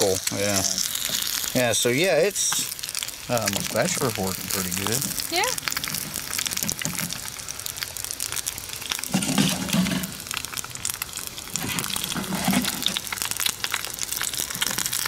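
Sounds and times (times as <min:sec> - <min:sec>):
eggs sizzling in oil: 0:00.0 - 0:15.0.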